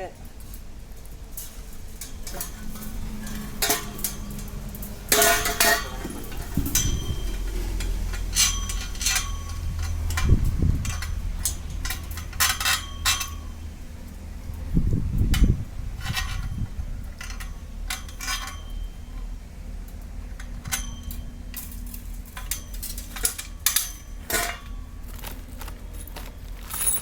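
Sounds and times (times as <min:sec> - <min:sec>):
steady low hum: 0:00.0 - 0:27.0
metal parts and tools clinking: 0:00.4 - 0:27.0.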